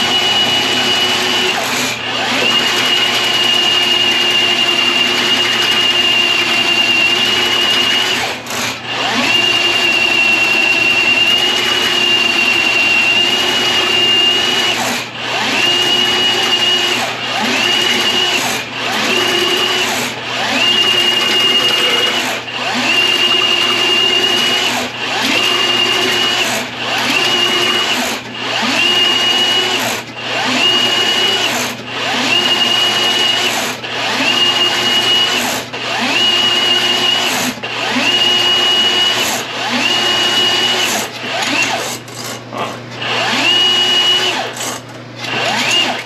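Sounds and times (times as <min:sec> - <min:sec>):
drain machine motor whine: 0:00.0 - 0:46.0.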